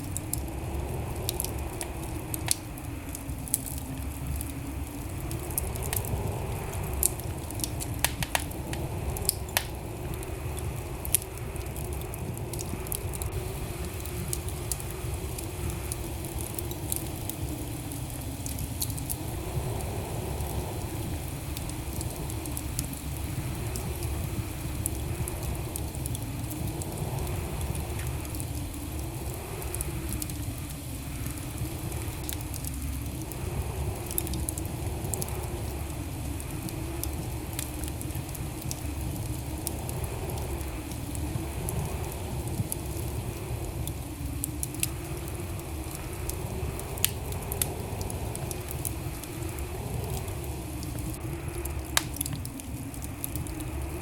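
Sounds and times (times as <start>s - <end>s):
fire crackles and pops: 0.0s - 54.0s
fire flames rumbling: 0.0s - 54.0s.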